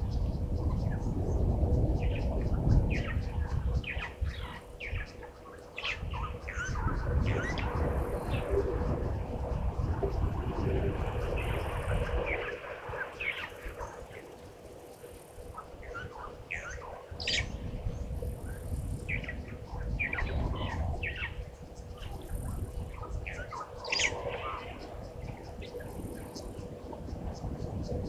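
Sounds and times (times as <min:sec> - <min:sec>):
faint steady hum: 0:00.0 - 0:28.0
birds chirping: 0:01.9 - 0:14.4, 0:15.1 - 0:28.0.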